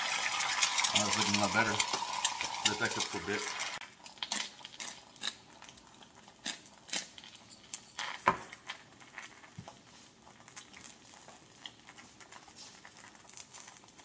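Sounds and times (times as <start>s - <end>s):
egg frying in oil: 0.0s - 14.0s.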